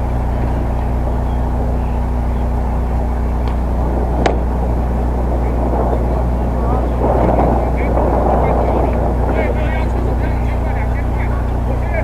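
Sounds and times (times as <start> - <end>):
low outdoor rumble with hum: 0.0 - 12.0.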